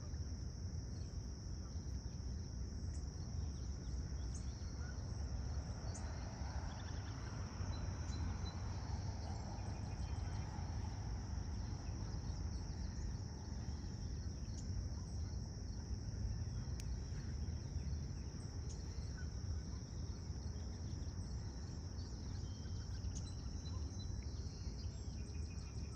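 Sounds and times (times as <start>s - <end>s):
insects chirping chorus: 0.0s - 25.9s
low steady rumble: 0.0s - 25.9s.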